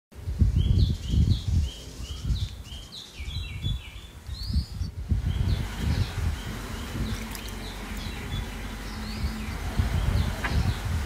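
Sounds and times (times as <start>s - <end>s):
wind gusts: 0.1s - 11.0s
bird chirping: 0.5s - 11.0s.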